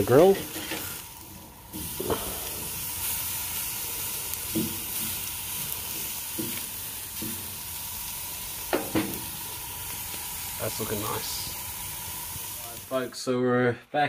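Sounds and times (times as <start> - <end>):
steak sizzling on grill: 0.0 - 13.2.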